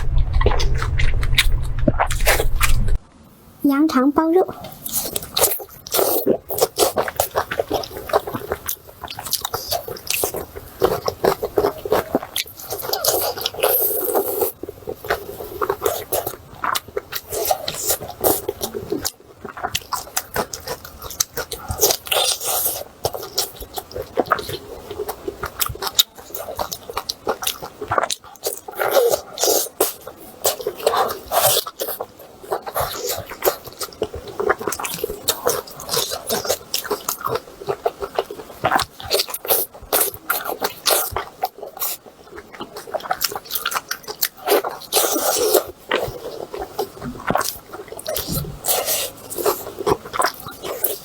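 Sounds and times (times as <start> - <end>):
wet chewing and smacking: 4.6 - 51.0.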